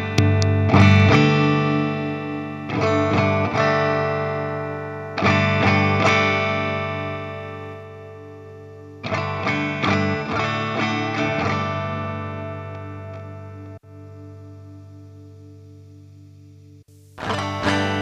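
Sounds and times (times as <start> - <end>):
electric guitar chords ringing: 0.0 - 18.0.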